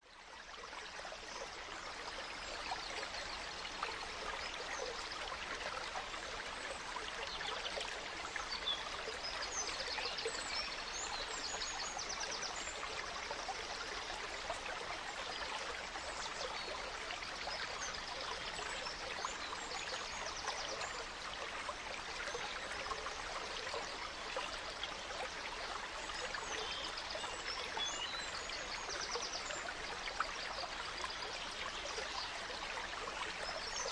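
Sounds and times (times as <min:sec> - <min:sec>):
stream babbling: 0:00.1 - 0:33.9.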